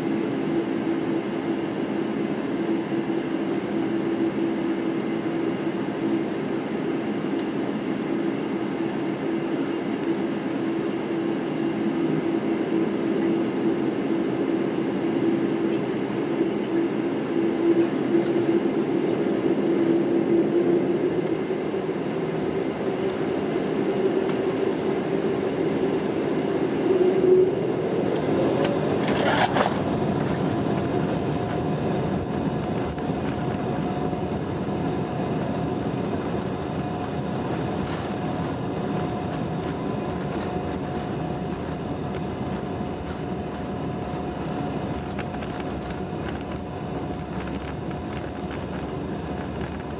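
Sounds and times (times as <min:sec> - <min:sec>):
jet engine rumble in cabin: 0:00.0 - 0:49.9
rising engine whine: 0:00.0 - 0:49.9.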